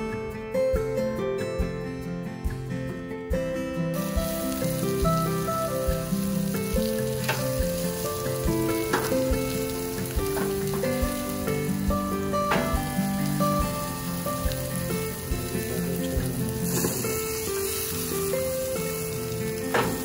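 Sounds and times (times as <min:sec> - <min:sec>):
background music with low beat: 0:00.0 - 0:20.0
meat sizzling on a grill: 0:03.9 - 0:20.0.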